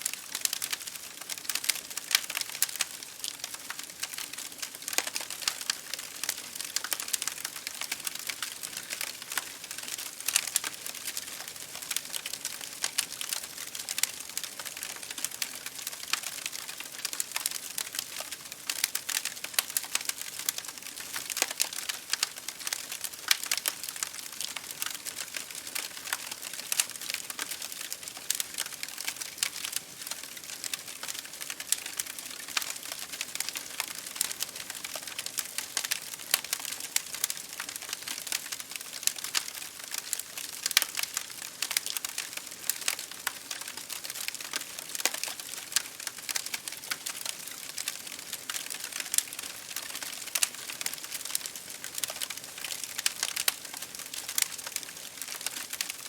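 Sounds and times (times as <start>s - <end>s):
rain on a windowpane: 0.0s - 56.0s
wood fire crackling: 0.0s - 56.0s.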